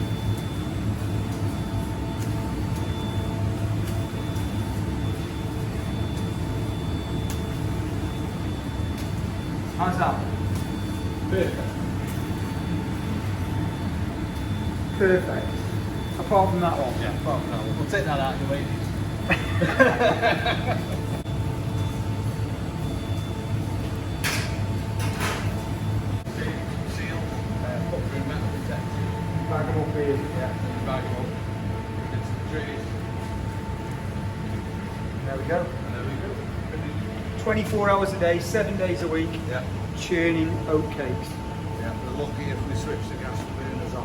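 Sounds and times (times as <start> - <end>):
bakery machinery humming: 0.0 - 44.0.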